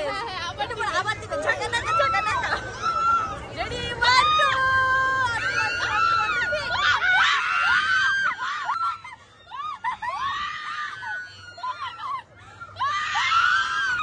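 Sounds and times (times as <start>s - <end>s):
women screaming and laughing: 0.1s - 14.0s.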